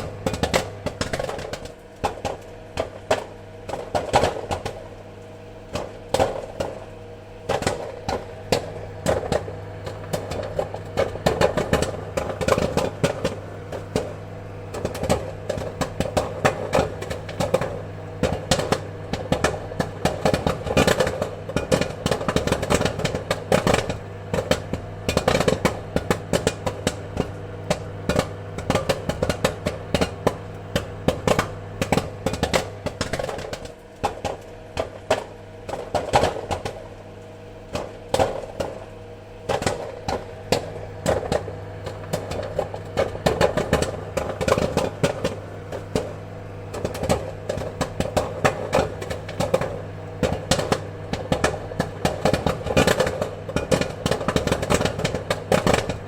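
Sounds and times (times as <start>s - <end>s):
popcorn kernels popping: 0.0s - 56.0s
steady low hum: 0.0s - 56.0s.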